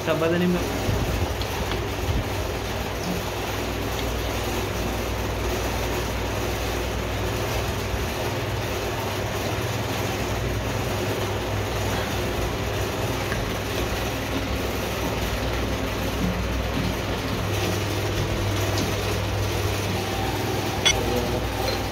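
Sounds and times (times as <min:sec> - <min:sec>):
low machine hum: 0:00.0 - 0:21.9.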